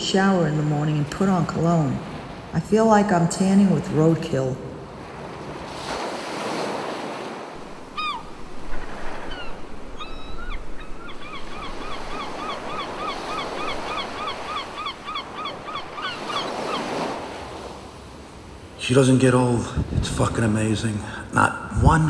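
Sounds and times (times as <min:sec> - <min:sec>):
ocean surf washing: 0:00.0 - 0:22.0.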